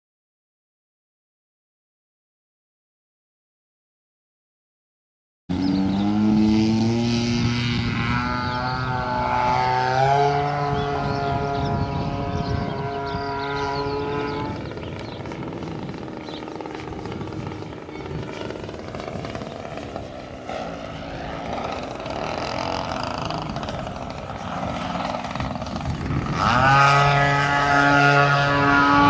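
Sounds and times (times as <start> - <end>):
model airplane motor and propeller: 5.5 - 29.0.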